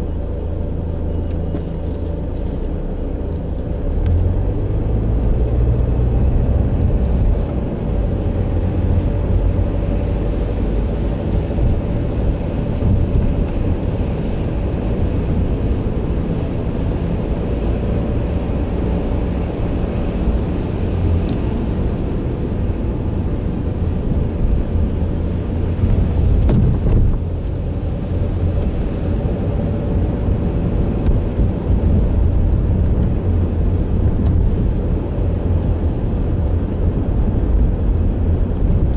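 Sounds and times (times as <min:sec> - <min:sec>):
vehicle driving rumble: 0:00.0 - 0:38.9.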